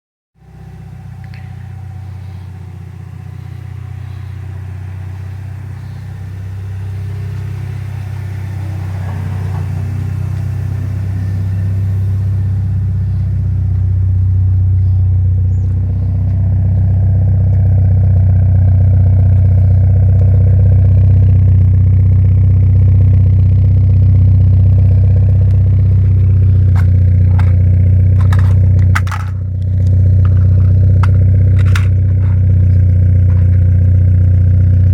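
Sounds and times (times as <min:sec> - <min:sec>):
deep car exhaust drone: 0:00.4 - 0:34.9.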